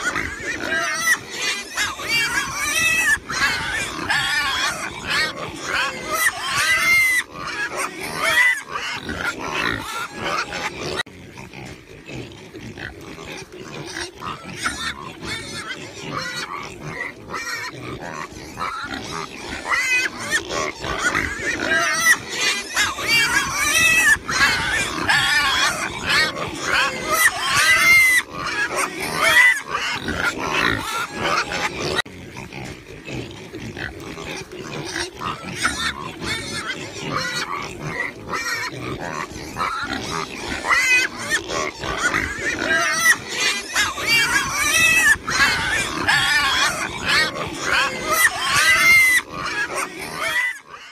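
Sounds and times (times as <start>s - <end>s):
pigs grunting and squealing: 0.0s - 50.9s.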